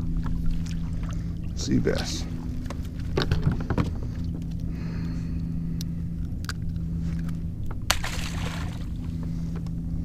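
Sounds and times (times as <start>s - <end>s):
constant low hum: 0.0s - 10.0s
wind and water rumble: 0.0s - 10.0s.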